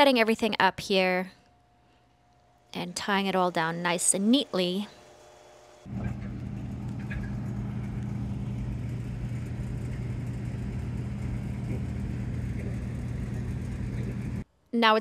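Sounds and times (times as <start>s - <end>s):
machinery hum: 0.6s - 14.5s.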